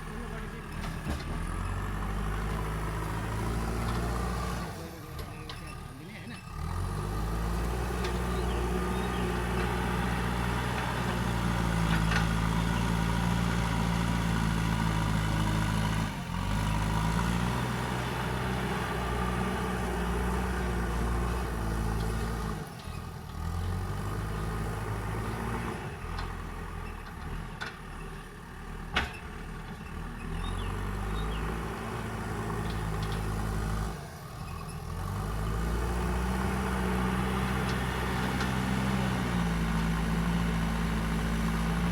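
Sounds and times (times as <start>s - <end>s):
diesel engine working: 0.0s - 41.9s.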